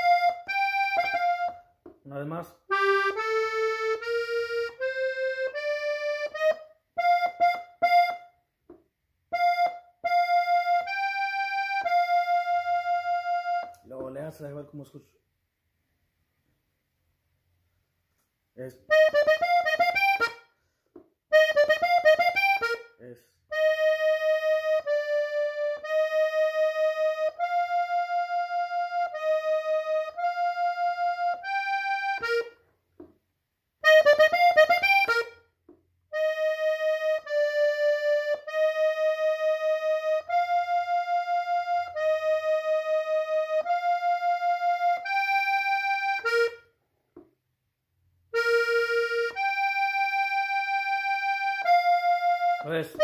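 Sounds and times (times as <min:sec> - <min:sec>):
button accordion melody: 0:00.0 - 0:14.7, 0:18.1 - 0:46.8, 0:48.2 - 0:53.0.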